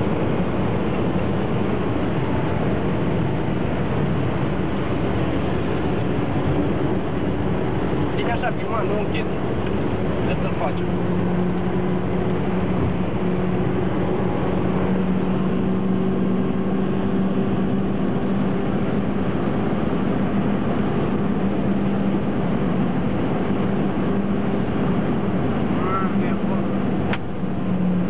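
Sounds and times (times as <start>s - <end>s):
car engine hum: 0.0s - 28.0s
road and wind noise: 0.0s - 28.0s.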